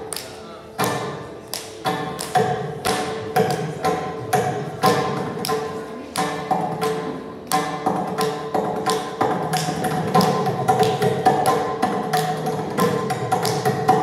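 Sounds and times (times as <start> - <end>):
hand drum playing: 0.8 - 14.0.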